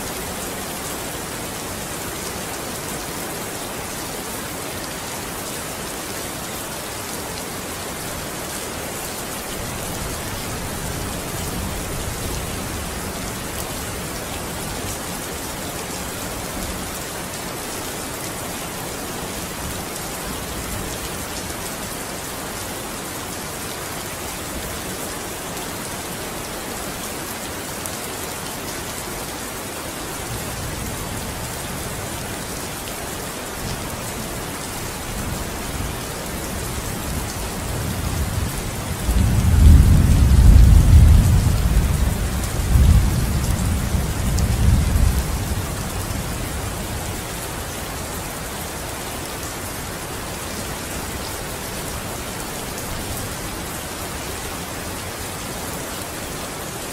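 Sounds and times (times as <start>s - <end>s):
rain on a window: 0.0s - 56.9s.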